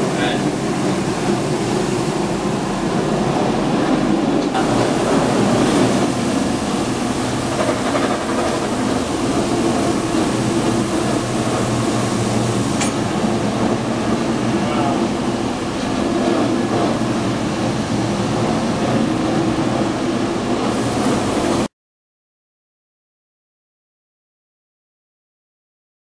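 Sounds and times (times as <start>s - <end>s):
carpet extractor vacuum rushing: 0.0s - 21.6s.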